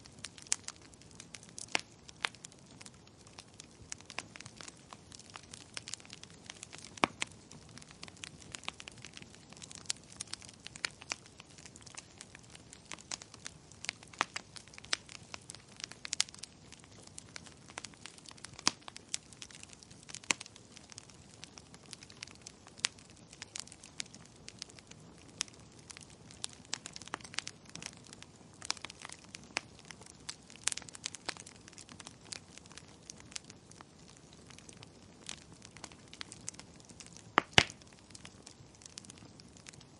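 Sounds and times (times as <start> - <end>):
firewood crackling and popping: 0.0 - 39.9
soft hiss of flames: 0.0 - 39.9.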